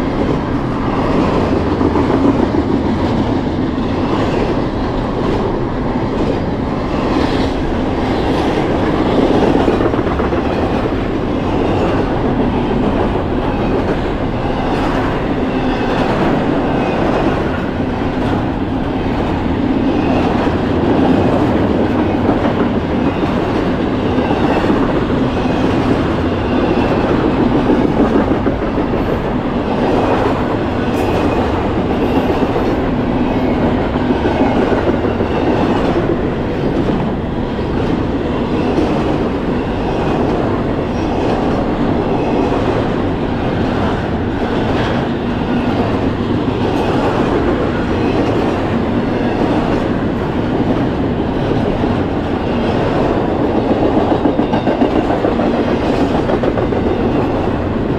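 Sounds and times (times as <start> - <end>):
steel wheels rolling on rails: 0.0 - 57.9.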